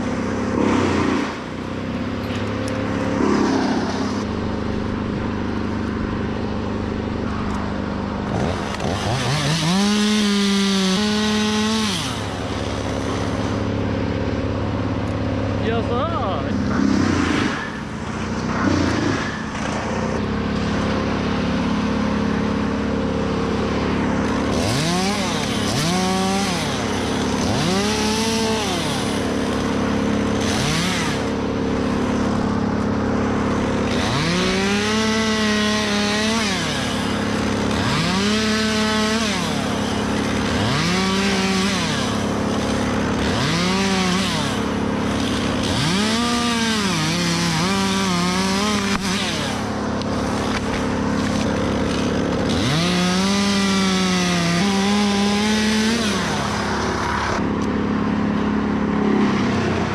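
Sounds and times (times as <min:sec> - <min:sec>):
chainsaw revving: 0:00.0 - 0:59.9
steady engine drone: 0:00.0 - 0:59.9.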